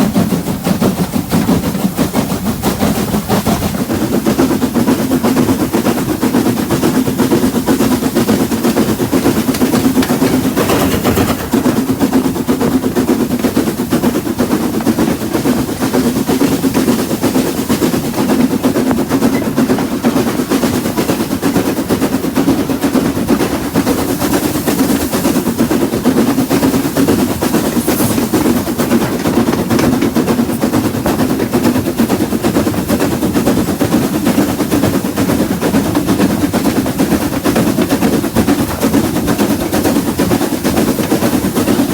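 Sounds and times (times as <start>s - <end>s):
train rattling clatter: 0.0s - 41.9s.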